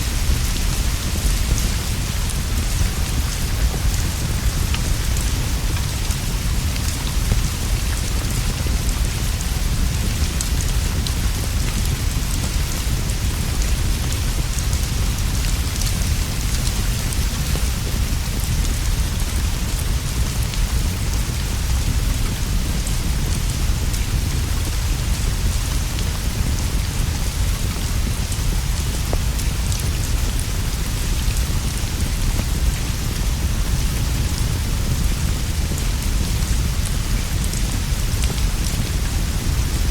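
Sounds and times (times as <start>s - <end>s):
fireplace fire crackling: 0.0s - 39.9s
rain on leaves and straw roof: 0.0s - 39.9s.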